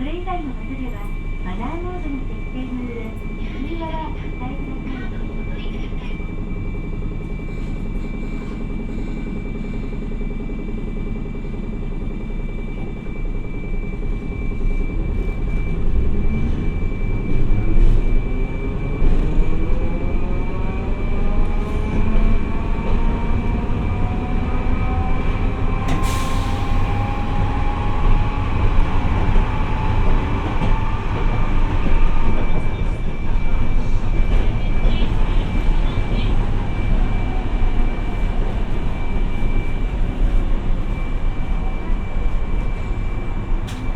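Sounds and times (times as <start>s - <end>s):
tram rumble: 0.0s - 43.9s.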